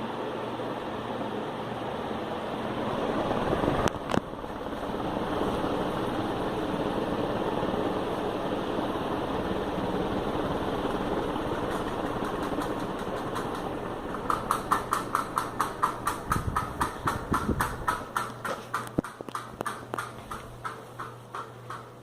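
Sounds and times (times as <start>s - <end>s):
ceiling fan whoosh and hum: 0.0s - 22.0s.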